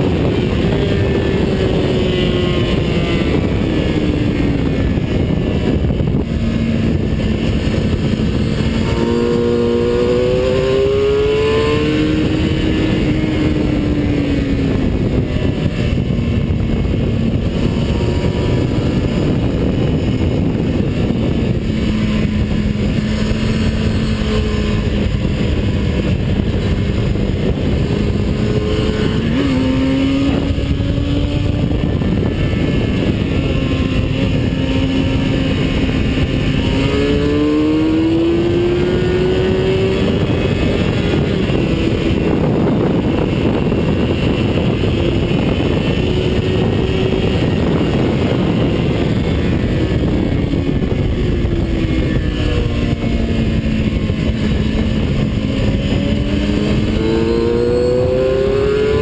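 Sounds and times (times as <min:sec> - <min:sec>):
heavy wind noise: 0:00.0 - 0:59.0
race car engine at speed: 0:00.0 - 0:59.0.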